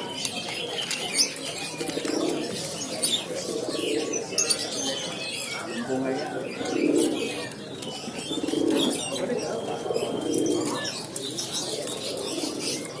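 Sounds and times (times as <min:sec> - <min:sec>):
pigeons cooing: 0:00.0 - 0:13.0
small birds chirping: 0:00.0 - 0:13.0.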